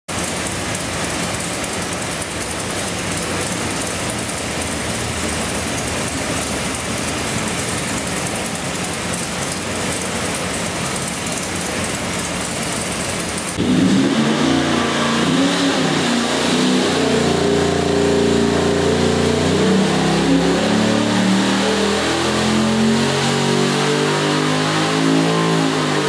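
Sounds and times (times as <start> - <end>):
engine idling: 0.1 - 23.0.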